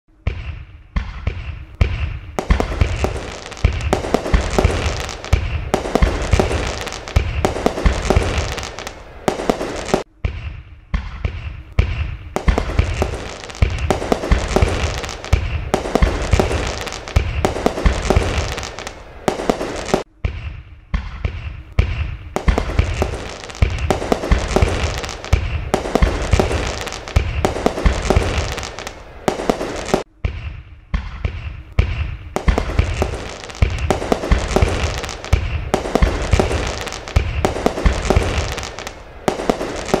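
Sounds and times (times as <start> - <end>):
fireworks booming: 0.2 - 40.0
fireworks crackling: 1.1 - 10.1, 11.8 - 20.1, 21.7 - 30.1, 31.8 - 40.0.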